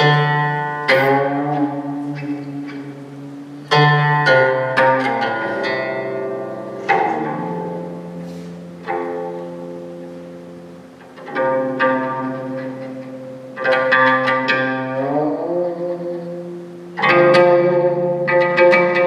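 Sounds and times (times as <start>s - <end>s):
bowed low string notes: 0.0s - 19.0s
plucked zither notes: 0.0s - 19.0s.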